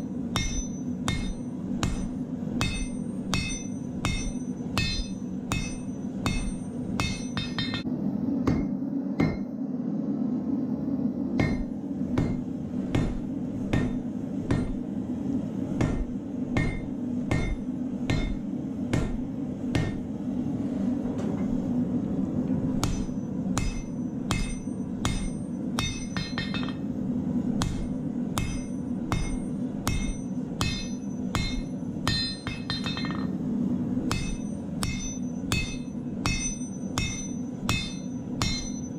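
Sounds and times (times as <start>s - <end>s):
hammer striking on anvil: 0.0s - 9.5s, 11.4s - 14.8s, 15.8s - 20.1s, 22.8s - 26.9s, 27.6s - 33.4s, 34.1s - 38.9s.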